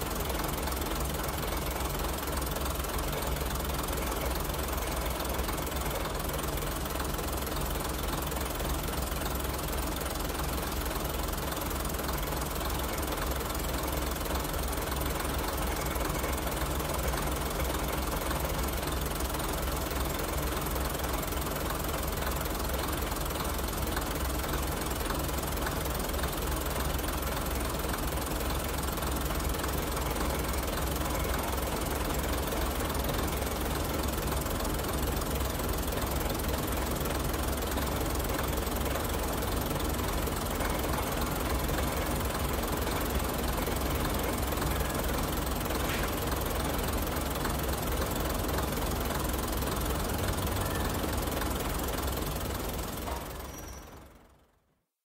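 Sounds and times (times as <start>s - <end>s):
diesel railcar engine drone: 0.0s - 54.6s.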